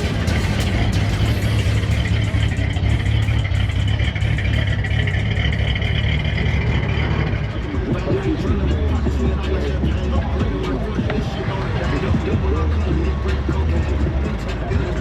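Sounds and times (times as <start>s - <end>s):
loud vehicle engine running: 0.0s - 15.0s.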